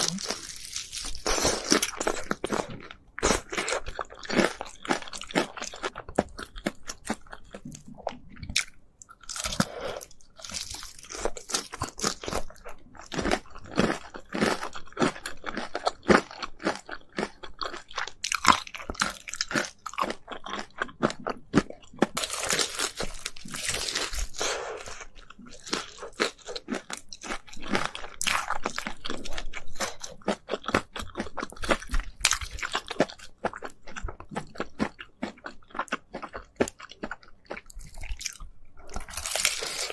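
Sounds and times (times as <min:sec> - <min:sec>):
crunching fried chicken: 0:00.0 - 0:39.9.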